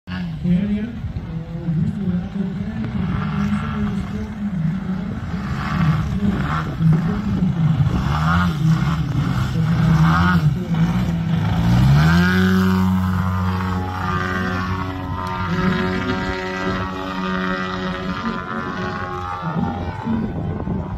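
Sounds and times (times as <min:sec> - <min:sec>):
model plane engine and propeller: 0:00.1 - 0:20.9.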